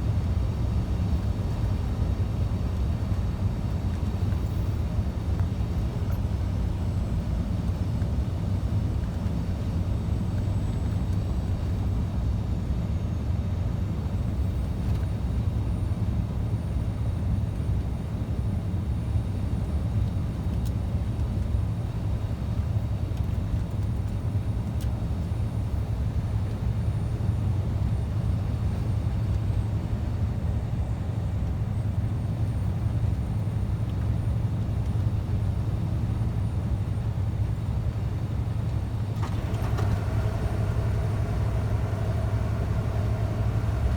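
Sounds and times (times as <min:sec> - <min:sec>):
truck engine and road noise: 0:00.0 - 0:43.9.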